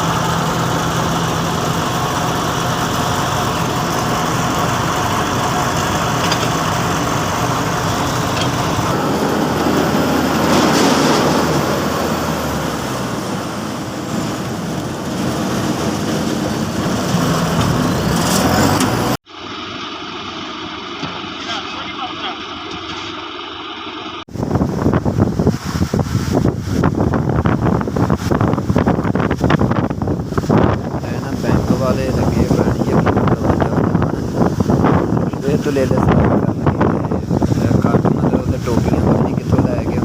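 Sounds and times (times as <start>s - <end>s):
harvester engine and machinery running: 0.0s - 40.0s.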